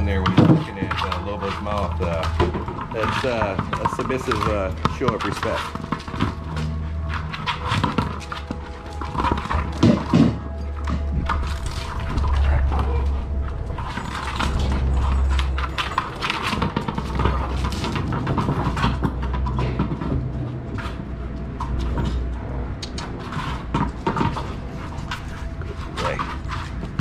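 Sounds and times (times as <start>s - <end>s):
dogs moving on paving: 0.0s - 27.0s
low rumble on microphone: 0.0s - 27.0s.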